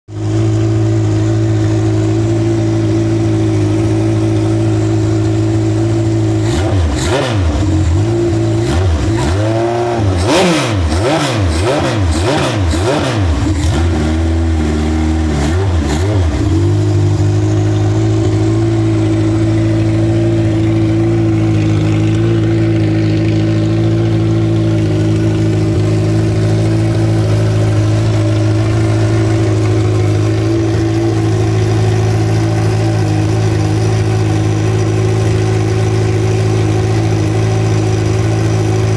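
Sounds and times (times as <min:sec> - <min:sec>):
engine throttle blips: 0:00.2 - 0:38.9
racing boat engine idling: 0:00.2 - 0:38.9.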